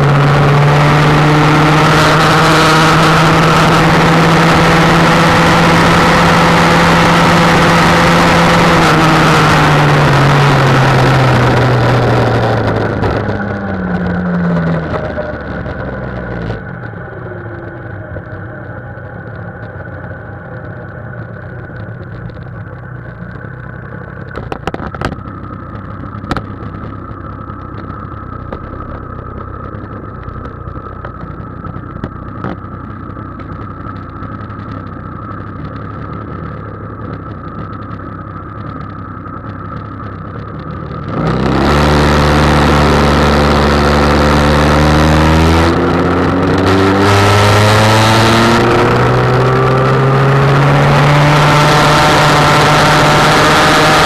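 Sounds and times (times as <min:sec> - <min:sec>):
scooter engine idling and revving: 0:00.0 - 0:54.0.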